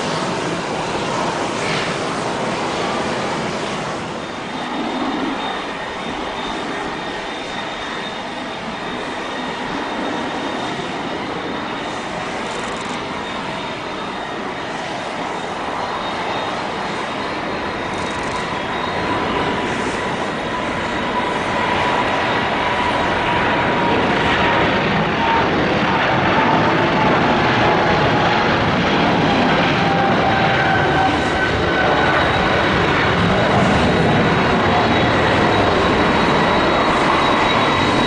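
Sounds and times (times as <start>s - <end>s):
jet engine roar with whine: 0.0s - 38.0s.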